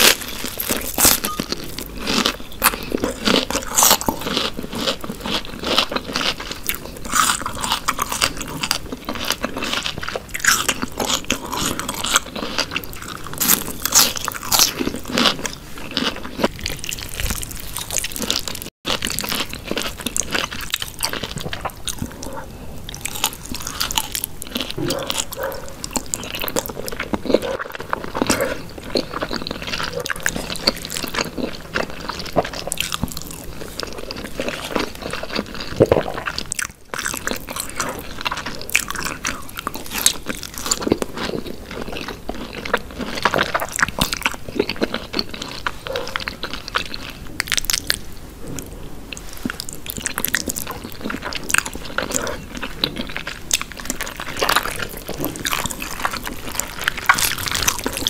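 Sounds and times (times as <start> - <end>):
biting and chewing food: 0.0 - 58.0.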